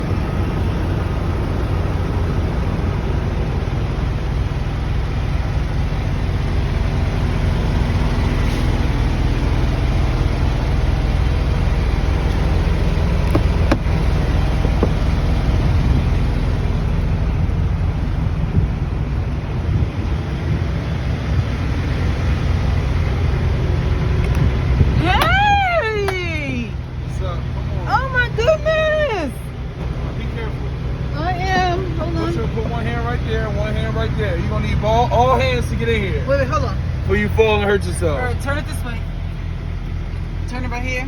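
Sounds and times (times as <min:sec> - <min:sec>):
vehicle engine rumbling: 0:00.0 - 0:41.0.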